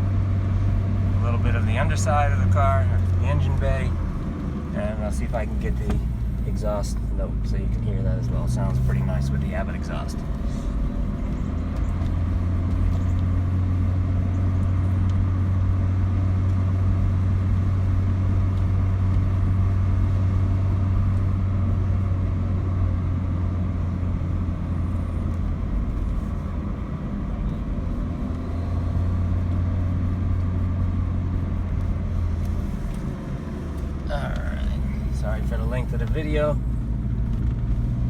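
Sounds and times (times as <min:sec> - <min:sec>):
car engine droning while driving: 0:00.0 - 0:38.0.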